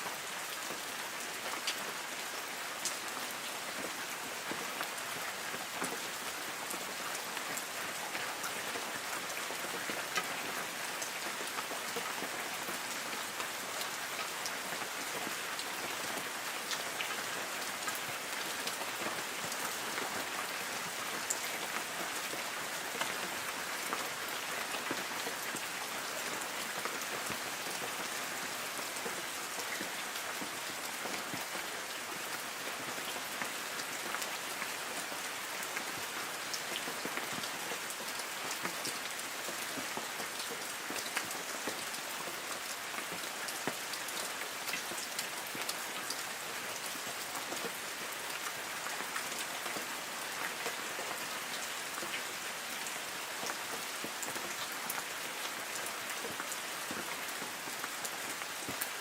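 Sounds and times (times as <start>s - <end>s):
light rain on trees: 0.0s - 59.0s.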